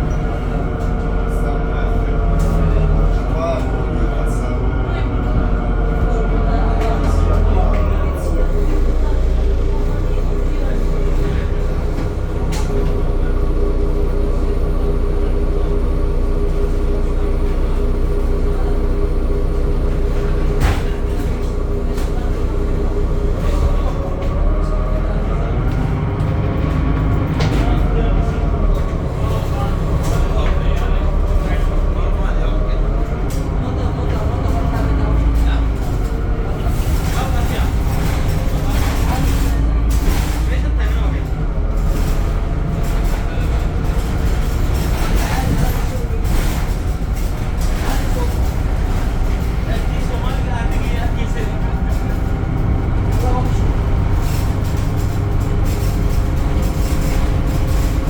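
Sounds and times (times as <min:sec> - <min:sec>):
bus diesel engine rumbling: 0:00.0 - 0:58.0
road noise: 0:00.0 - 0:58.0.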